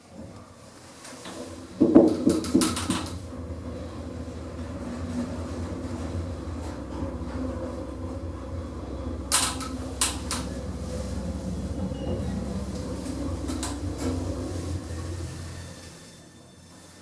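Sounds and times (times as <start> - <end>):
lift machinery rumble: 0.3 - 17.0.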